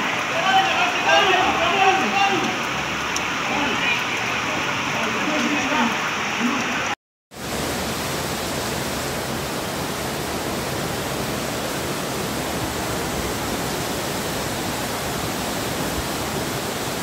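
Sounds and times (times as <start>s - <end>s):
heavy rain: 0.0s - 17.0s
rushing floodwater: 0.0s - 17.0s.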